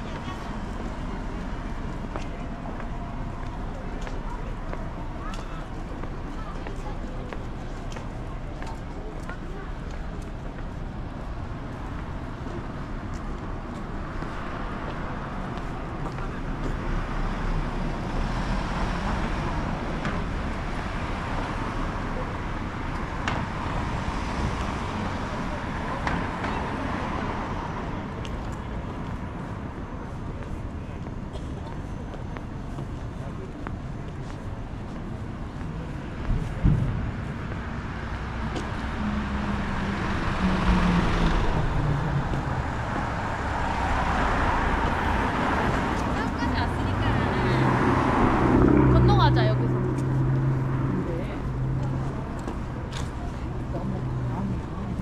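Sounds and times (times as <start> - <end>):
city street ambience: 0.0 - 55.0.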